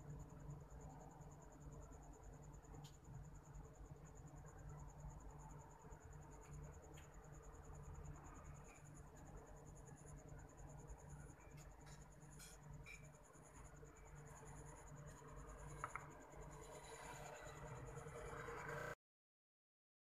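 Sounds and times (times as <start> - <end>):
insects trilling: 0.1 - 18.9.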